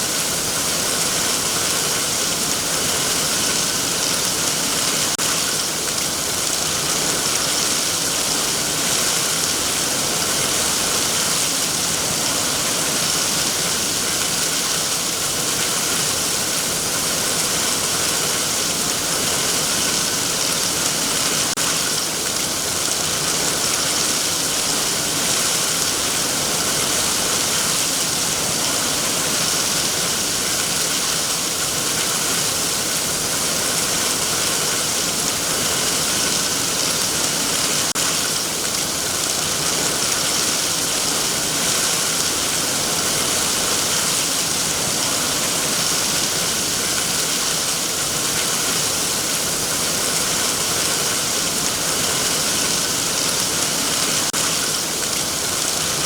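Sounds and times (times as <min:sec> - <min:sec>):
heavy rain on trees: 0:00.0 - 0:56.0.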